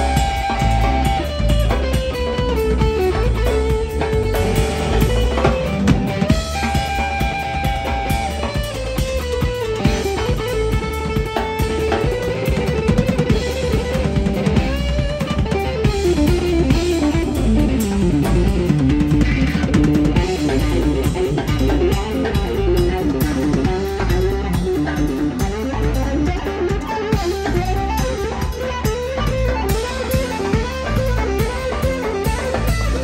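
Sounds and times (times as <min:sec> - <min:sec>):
bass guitar: 0:00.0 - 0:33.0
drum kit: 0:00.0 - 0:33.0
electric guitar melody: 0:00.0 - 0:33.0.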